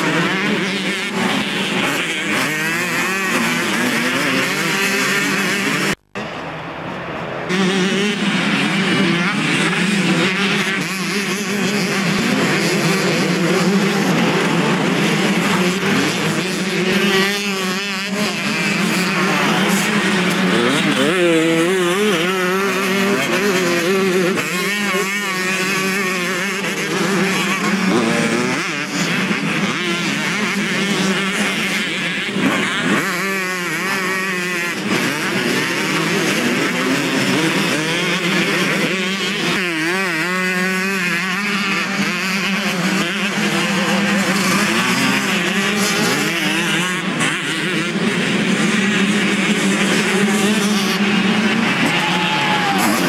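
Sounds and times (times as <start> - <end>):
motocross bike engines revving: 0.0 - 53.0.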